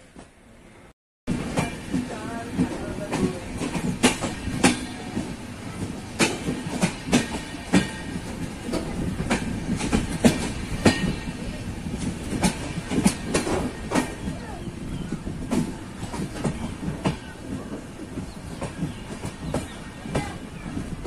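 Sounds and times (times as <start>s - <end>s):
train rumbling: 0.0s - 21.0s
wheels clacking over track joints: 1.3s - 21.0s.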